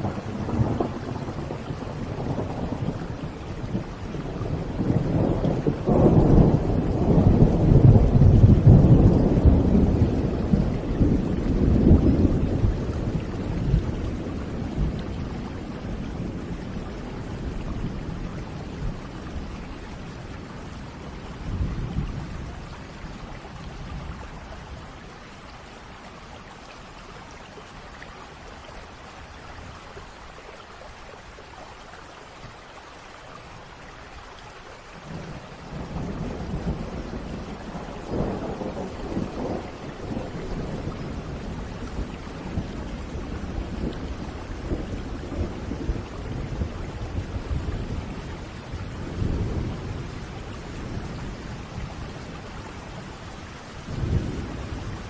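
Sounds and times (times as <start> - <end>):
thunder rumbling: 0.0 - 24.9, 35.0 - 55.0
steady rain: 0.0 - 55.0.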